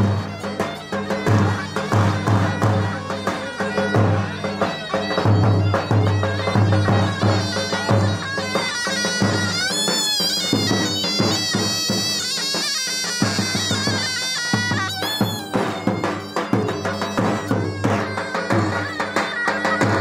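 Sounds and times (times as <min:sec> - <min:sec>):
reedy ornamented melody: 0:00.0 - 0:20.0
repeating drum beat: 0:00.0 - 0:20.0.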